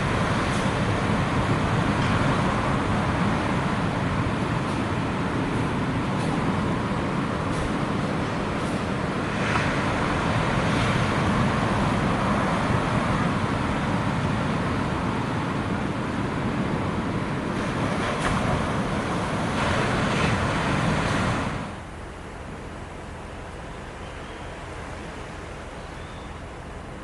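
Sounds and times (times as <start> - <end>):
strong wind buffeting microphone: 0.0 - 21.8.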